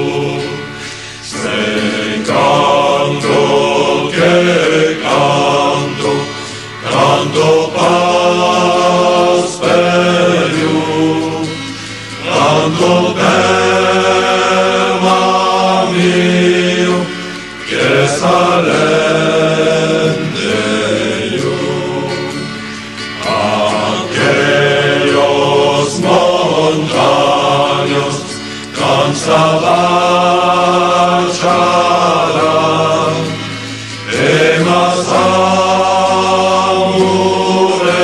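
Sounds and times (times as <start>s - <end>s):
voices singing long notes: 0.0s - 38.0s.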